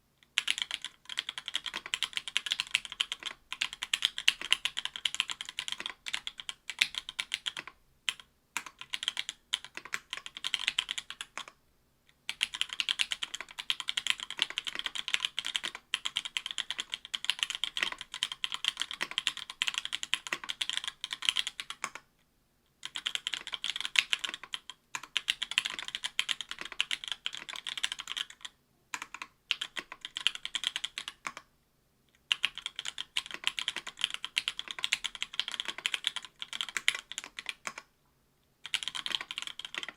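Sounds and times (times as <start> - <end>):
typing on mechanical keyboard: 0.4 - 11.6, 12.3 - 22.0, 22.8 - 31.5, 32.3 - 37.9, 38.6 - 39.9.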